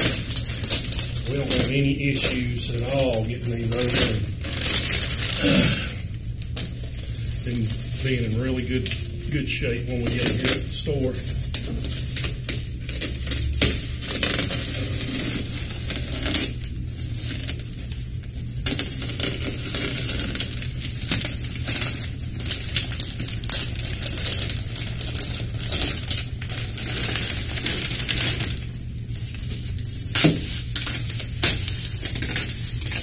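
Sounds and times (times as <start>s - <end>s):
plastic film crinkling: 0.0s - 33.0s.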